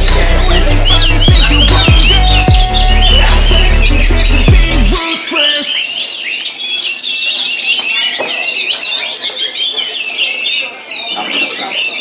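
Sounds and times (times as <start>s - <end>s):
songbirds chorus: 0.0s - 12.0s.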